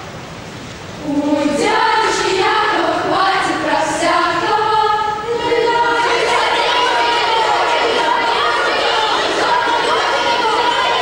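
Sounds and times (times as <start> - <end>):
children's choir singing: 1.0 - 11.0.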